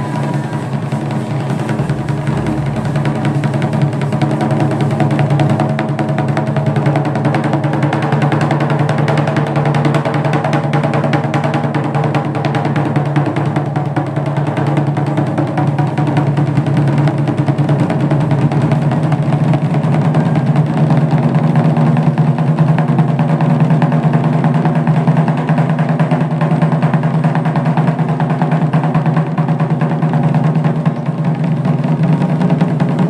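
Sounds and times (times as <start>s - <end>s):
taiko drums rolling beat: 0.0s - 33.0s.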